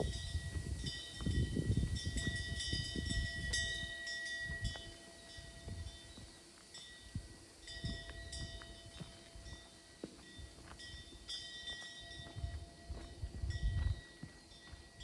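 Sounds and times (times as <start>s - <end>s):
metal wind bell ringing: 0.0s - 15.0s.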